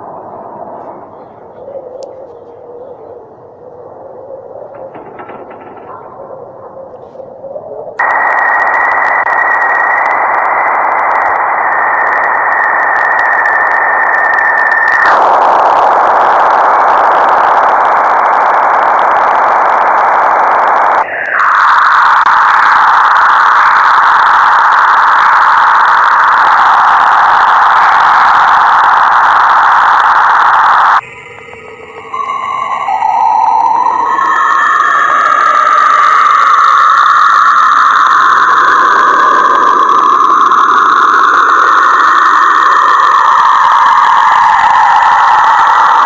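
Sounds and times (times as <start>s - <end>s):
steady electronic hiss: 0.0s - 46.0s.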